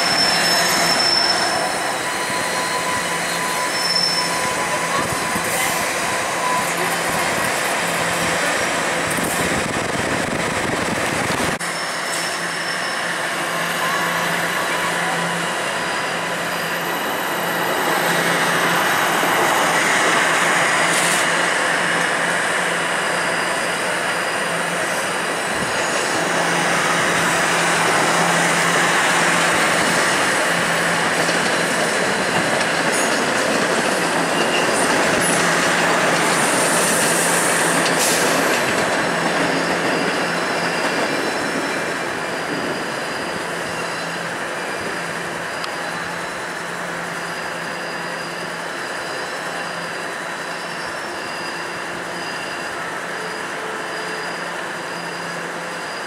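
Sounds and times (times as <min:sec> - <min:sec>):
high-pitched wheel squeals: 0:00.0 - 0:07.4, 0:11.6 - 0:22.1, 0:22.7 - 0:32.2, 0:33.8 - 0:56.0
steel wheels rumbling on rail: 0:00.0 - 0:56.0.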